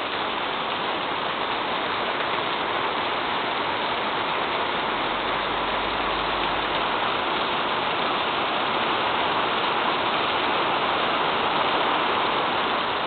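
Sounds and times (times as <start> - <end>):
heavy rain on road and grass: 0.0 - 13.0.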